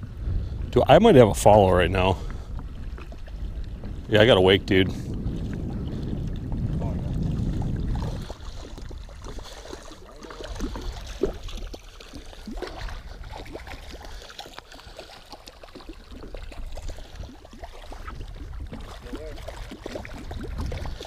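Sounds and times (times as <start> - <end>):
wind rumble: 0.0 - 14.2, 16.0 - 21.0
waves lapping against boat: 0.0 - 21.0.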